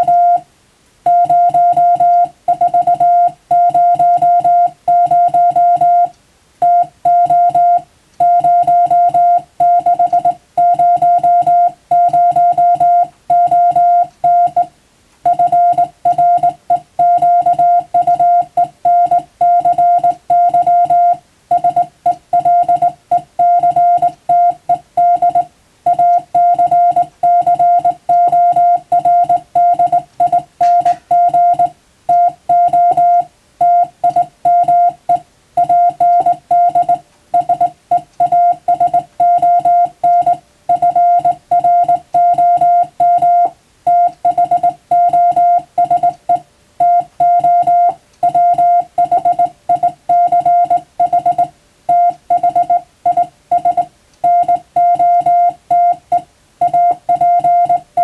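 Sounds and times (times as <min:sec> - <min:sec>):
morse code beeps: 0:00.0 - 0:00.4, 0:01.1 - 0:58.0.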